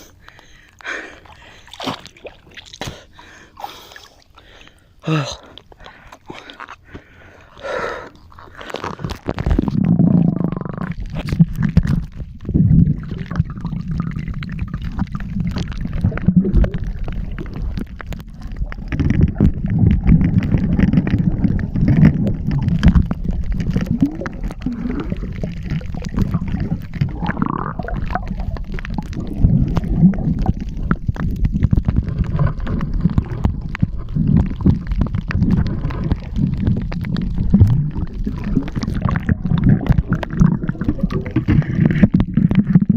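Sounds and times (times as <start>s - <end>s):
muffled underwater gurgling: 4.4s - 42.9s.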